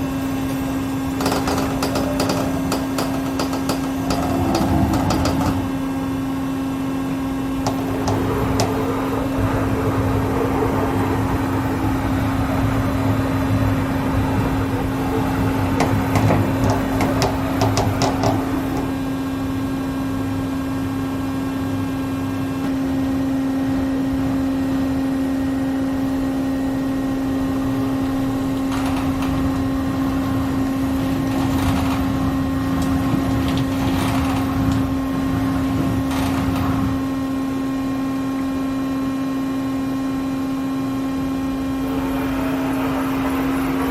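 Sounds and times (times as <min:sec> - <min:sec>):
machine tool whine and hum: 0:00.0 - 0:43.9.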